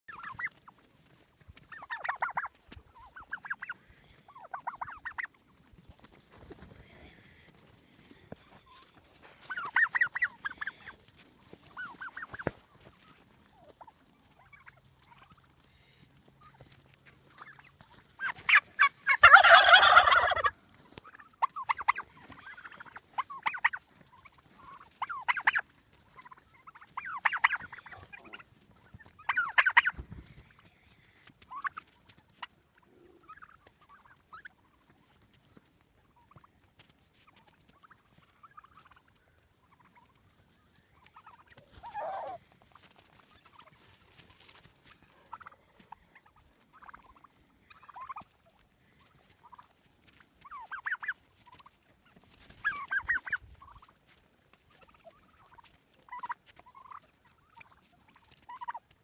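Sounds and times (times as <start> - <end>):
turkeys gobbling: 0.1 - 59.0.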